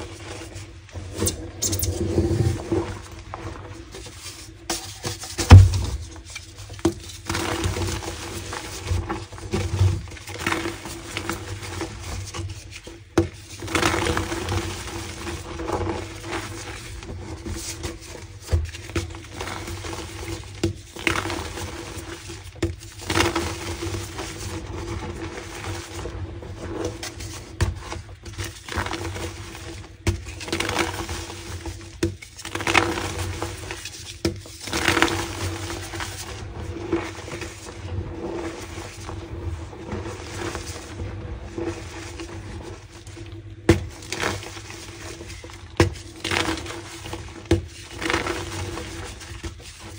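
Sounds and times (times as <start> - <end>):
chalk crunching and crumbling: 0.0 - 49.9.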